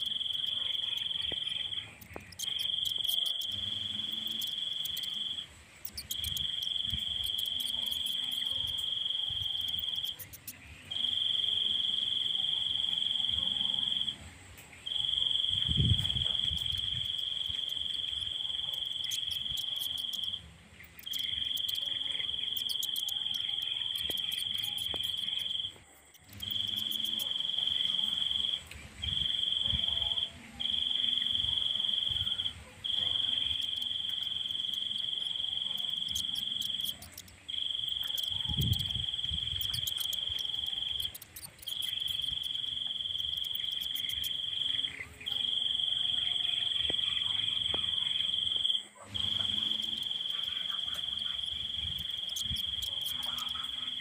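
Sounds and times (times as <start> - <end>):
insect trilling: 0.0 - 14.2, 14.9 - 54.0.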